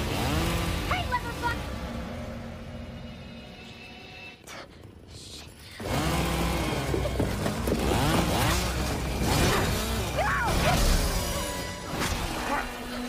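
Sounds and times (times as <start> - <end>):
engine revving: 0.0 - 3.5, 5.8 - 13.0.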